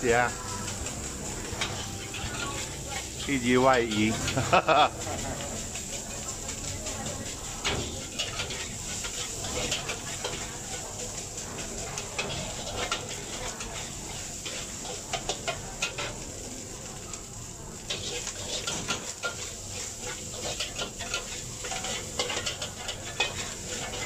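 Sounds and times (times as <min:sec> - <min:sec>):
sizzling hiss from pan: 0:00.0 - 0:24.0
spatula scraping a wok: 0:00.3 - 0:16.7, 0:17.8 - 0:24.0.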